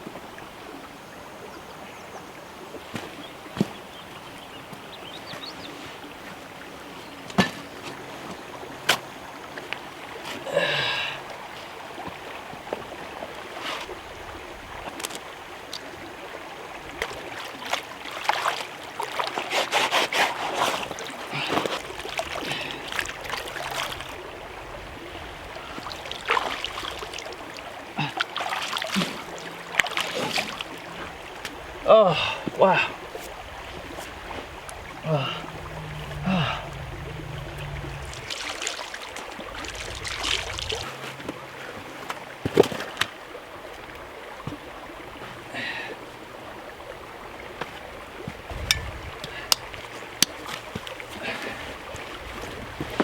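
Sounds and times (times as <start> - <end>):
water splashing and trickling: 0.0 - 53.0.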